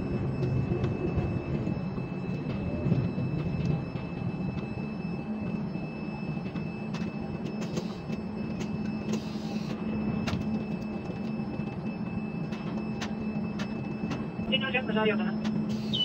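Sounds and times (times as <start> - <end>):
crane machinery hum: 0.0 - 16.0.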